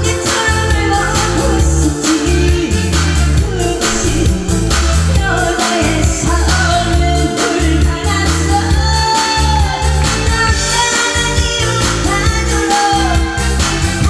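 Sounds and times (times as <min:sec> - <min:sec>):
backing music with bass beat: 0:00.0 - 0:14.0
person singing pop song: 0:00.0 - 0:14.0.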